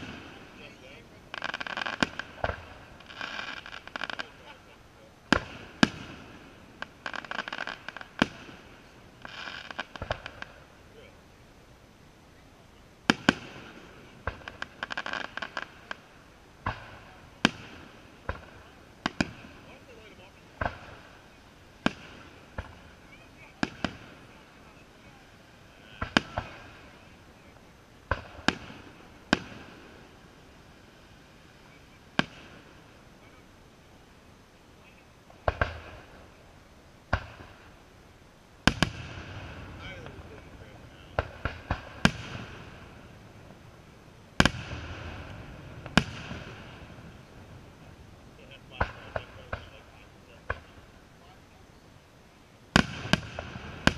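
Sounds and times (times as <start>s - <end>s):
rapid firework pops: 0.0s - 4.6s, 5.2s - 10.7s, 13.0s - 33.4s, 35.2s - 36.4s, 37.1s - 37.8s, 38.6s - 43.8s, 44.4s - 47.8s, 48.6s - 51.1s, 52.7s - 53.9s
firework shells bursting: 0.0s - 10.8s, 13.0s - 34.3s, 35.2s - 51.2s, 52.7s - 53.9s.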